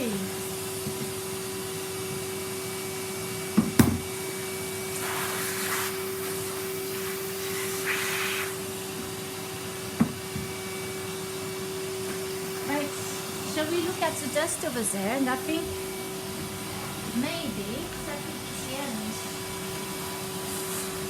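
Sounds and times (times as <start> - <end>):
vacuum cleaner motor hum: 0.0 - 21.0
vacuum hissing: 0.0 - 21.0.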